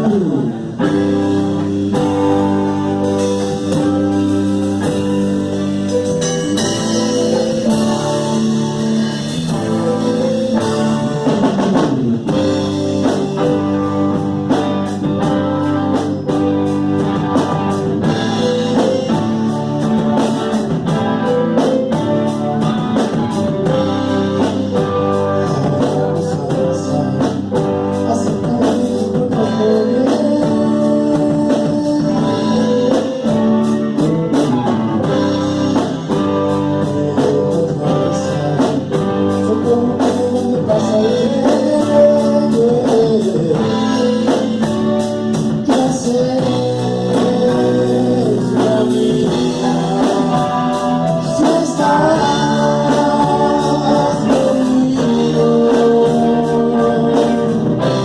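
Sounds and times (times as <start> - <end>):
blues-rock guitar: 0.0 - 58.0
drum kit beat: 0.0 - 58.0.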